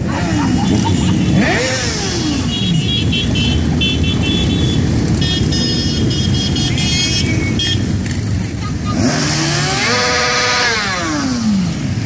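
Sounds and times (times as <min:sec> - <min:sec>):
motorcycle engines running loudly: 0:00.0 - 0:12.0.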